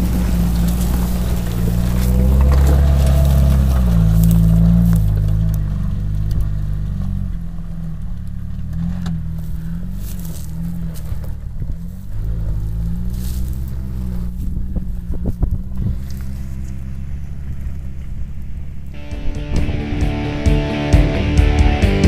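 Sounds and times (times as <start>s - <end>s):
off-road engine revving: 0.0s - 22.0s.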